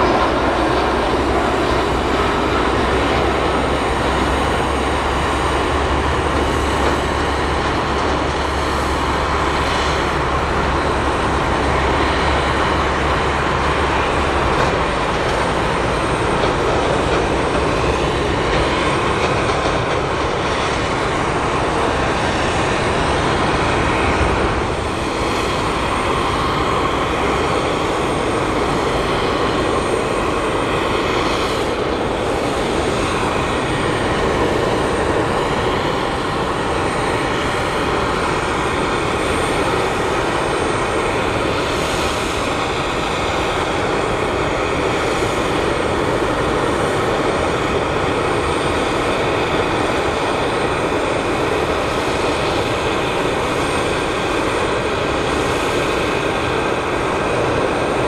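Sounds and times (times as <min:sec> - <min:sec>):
jet airliner engines running: 0:00.0 - 0:58.0.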